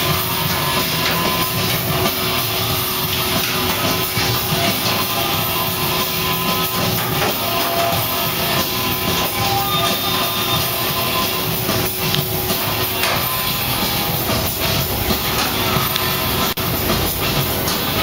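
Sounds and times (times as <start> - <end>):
machinery din: 0.0 - 18.0
rock music with guitar: 0.0 - 18.0.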